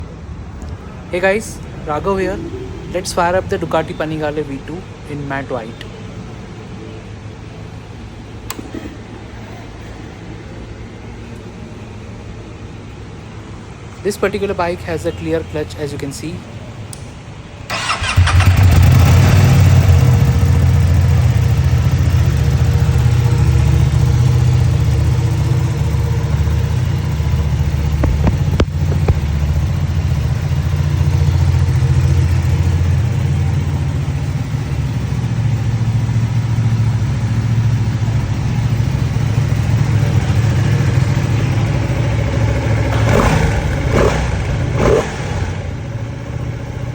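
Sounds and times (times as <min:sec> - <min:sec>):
motorcycle engine starting and running: 0:00.0 - 0:06.0, 0:07.6 - 0:10.0, 0:17.7 - 0:46.9.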